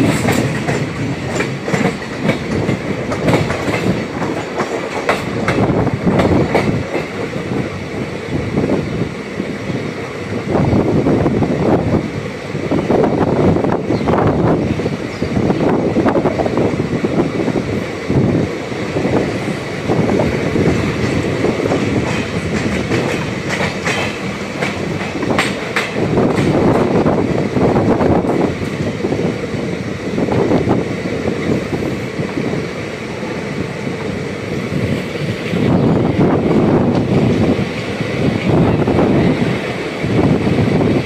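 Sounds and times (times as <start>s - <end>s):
train wheels clattering over rails: 0.0s - 41.0s.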